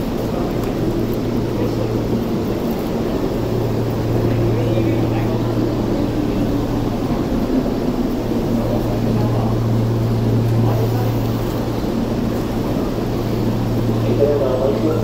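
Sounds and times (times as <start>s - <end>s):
bustle of passengers: 0.0s - 15.0s
train equipment low hum: 0.0s - 15.0s.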